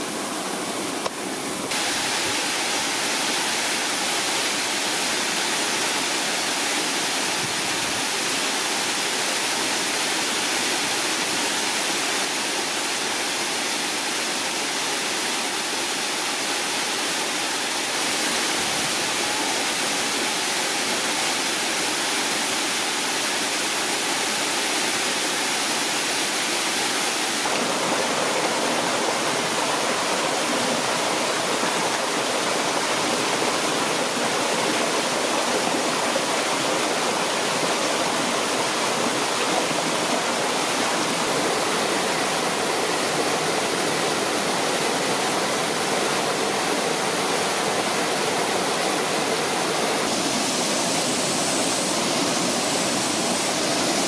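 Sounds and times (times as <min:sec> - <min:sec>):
stream running over rocks: 0:00.0 - 0:54.0
waterfall rushing: 0:00.0 - 0:54.0.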